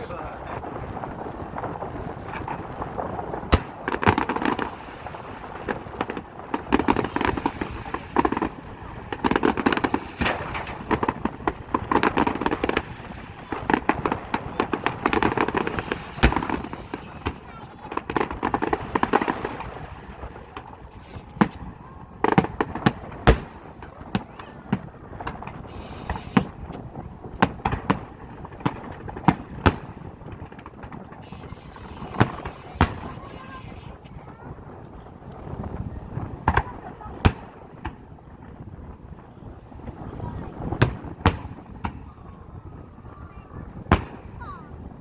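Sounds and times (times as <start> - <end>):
crackling firework pops: 0.0 - 45.0
firework bang: 0.0 - 45.0.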